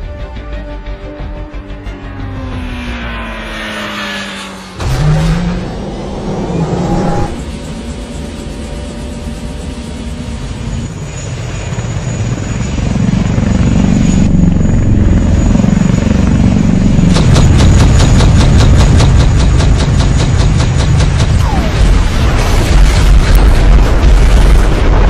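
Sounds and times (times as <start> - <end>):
helicopter rotor chopping: 1.9 - 25.0.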